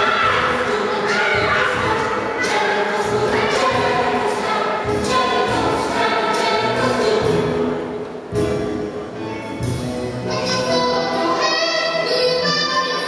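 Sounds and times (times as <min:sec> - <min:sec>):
choir singing with instruments: 0:00.0 - 0:13.0.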